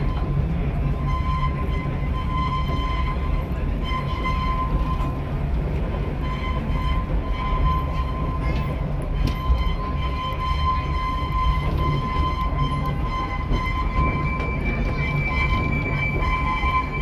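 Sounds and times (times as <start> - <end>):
wheels rumbling on rails: 0.0 - 17.0.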